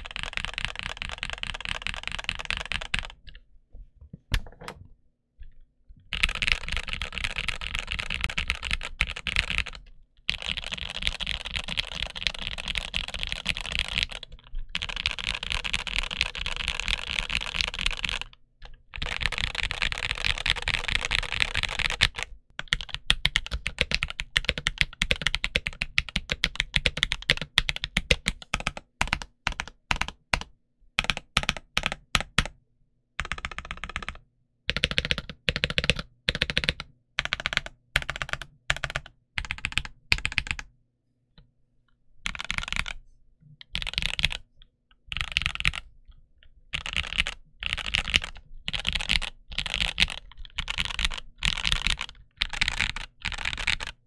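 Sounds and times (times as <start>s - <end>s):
mechanical keyboard typing: 0.0s - 3.4s, 6.1s - 18.4s, 19.0s - 32.6s, 33.2s - 40.7s, 42.2s - 43.0s, 43.6s - 45.9s, 46.7s - 54.0s.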